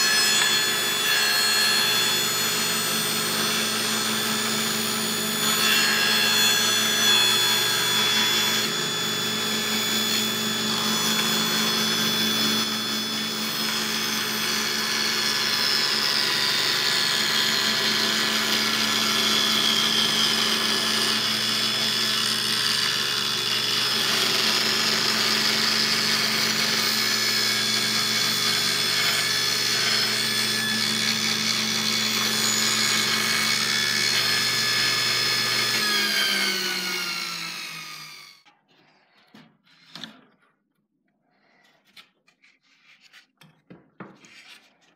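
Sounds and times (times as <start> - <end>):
table saw ripping wood: 0.0 - 38.4.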